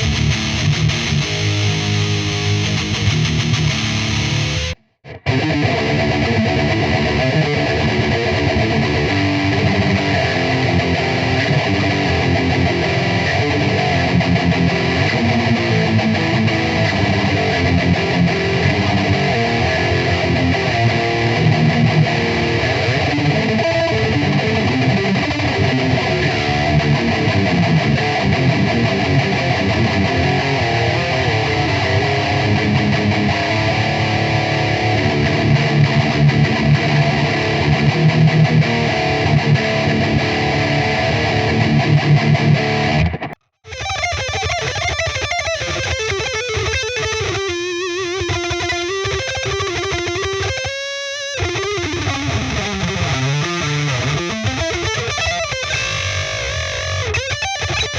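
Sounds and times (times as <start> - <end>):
distorted electric guitar riffs: 0.0 - 57.9.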